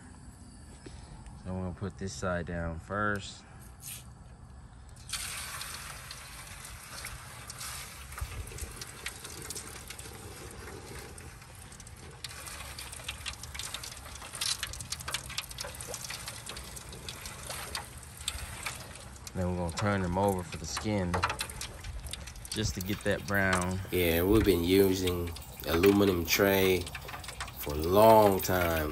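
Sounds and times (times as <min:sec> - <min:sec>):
low steady rumble: 0:00.0 - 0:28.9
crackling oil pops: 0:04.9 - 0:28.9
meat sizzling in hot oil: 0:05.0 - 0:19.8, 0:20.4 - 0:28.9.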